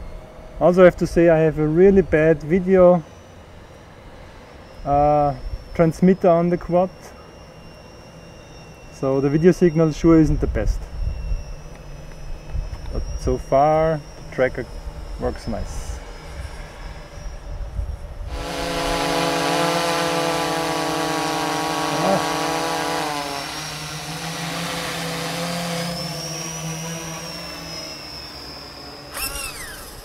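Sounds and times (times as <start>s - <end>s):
quadcopter propellers buzzing: 0.0s - 30.0s.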